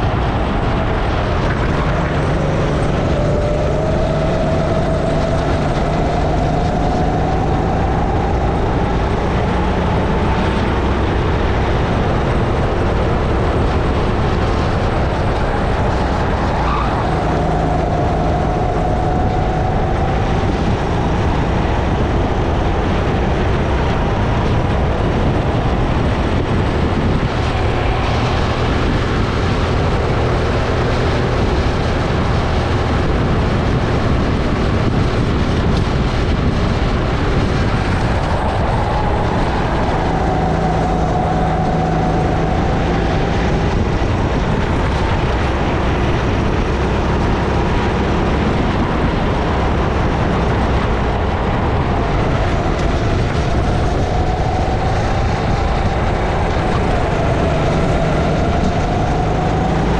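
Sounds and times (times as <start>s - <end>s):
kart engine running hard: 0.0s - 59.9s
rush of wind noise on microphone: 0.0s - 59.9s.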